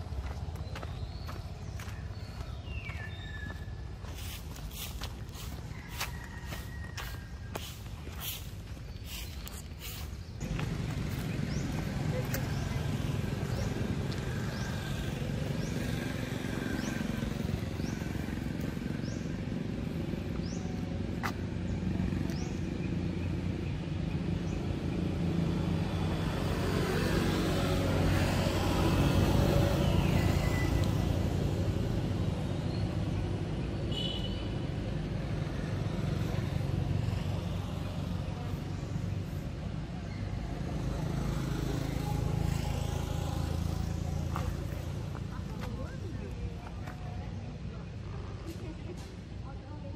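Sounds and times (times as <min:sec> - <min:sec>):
vehicle engine rumble: 0:00.0 - 0:49.9
vehicle passing: 0:04.2 - 0:33.6, 0:34.9 - 0:46.6.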